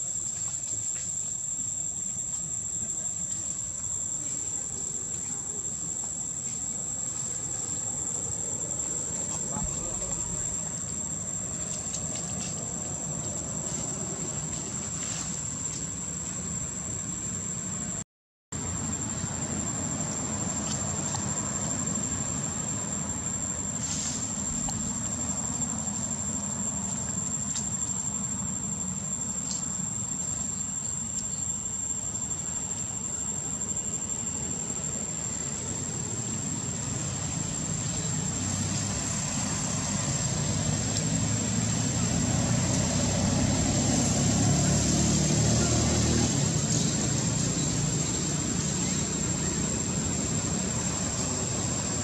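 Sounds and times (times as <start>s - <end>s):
constant high-pitched whine: 0.0s - 18.0s, 18.6s - 52.0s.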